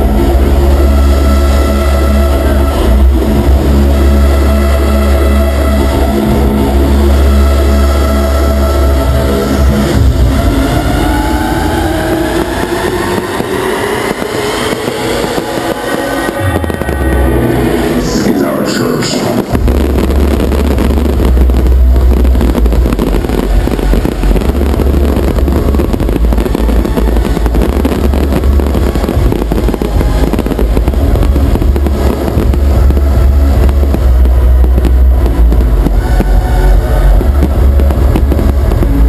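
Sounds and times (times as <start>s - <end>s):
deep rumble: 0.0s - 39.0s
fireworks crackling and bursting: 0.0s - 39.0s.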